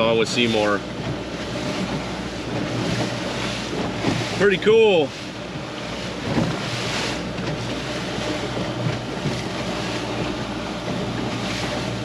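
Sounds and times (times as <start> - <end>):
water rushing: 0.0 - 12.0
wind on microphone: 0.7 - 12.0.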